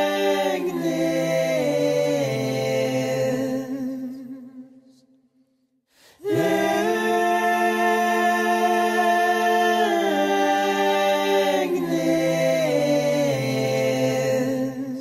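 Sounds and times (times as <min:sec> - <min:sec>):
choir-like held vocal chords: 0:00.0 - 0:05.0, 0:06.1 - 0:15.0.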